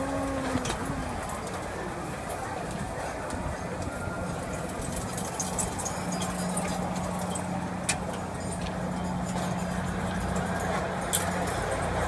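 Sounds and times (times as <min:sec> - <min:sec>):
crowd and ride noise: 0:00.0 - 0:12.0.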